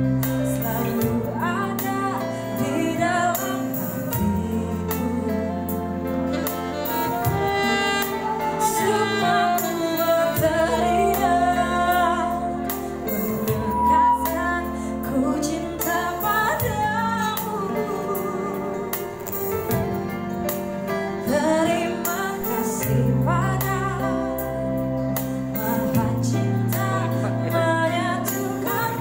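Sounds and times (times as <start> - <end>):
woman singing: 0.0 - 20.1, 21.2 - 29.0
guitar: 0.0 - 29.0.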